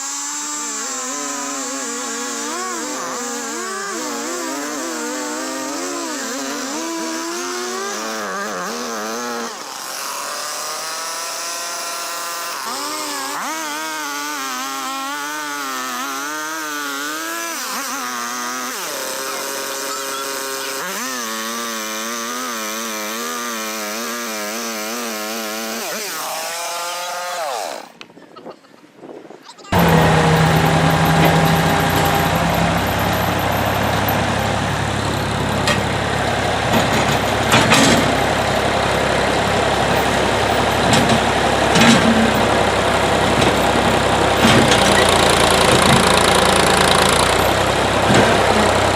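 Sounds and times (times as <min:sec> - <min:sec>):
chainsaw cutting wood: 0:00.0 - 0:28.2, 0:29.7 - 0:48.9.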